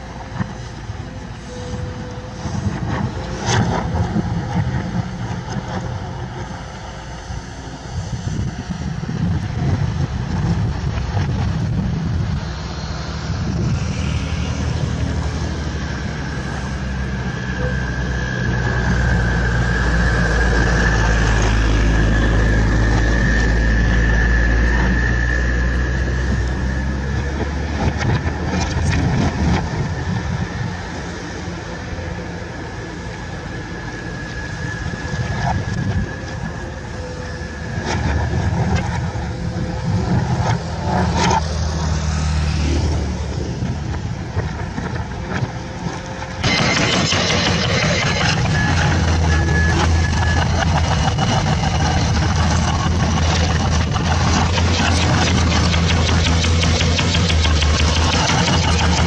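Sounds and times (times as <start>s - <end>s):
deep rumble: 0.0s - 59.0s
engine droning: 0.0s - 59.0s
machine high whine: 0.0s - 59.0s.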